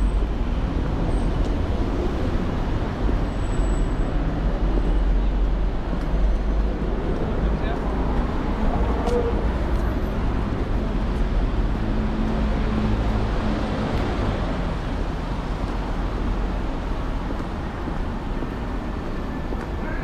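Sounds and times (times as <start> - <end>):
passing vehicles: 0.0 - 20.0.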